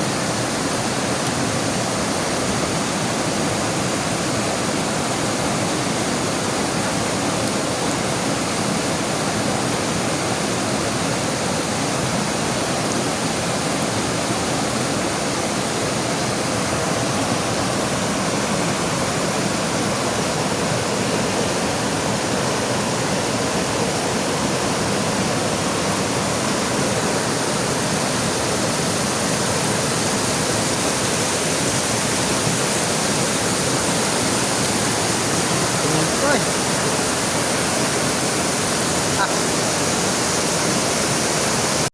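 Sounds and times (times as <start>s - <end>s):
heavy rain pouring: 0.0s - 41.9s
river flowing: 0.0s - 41.9s.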